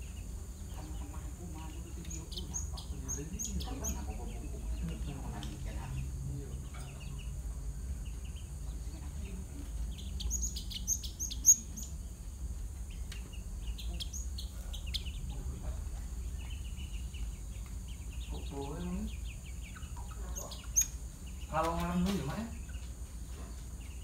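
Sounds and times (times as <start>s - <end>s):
sparrows chirping: 0.0s - 24.0s
steady low hum: 0.0s - 24.0s.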